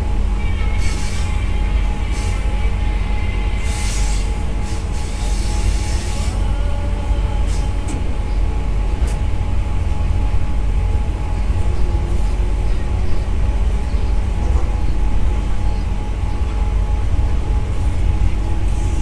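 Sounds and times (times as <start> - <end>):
locomotive deep rumble: 0.0 - 19.0.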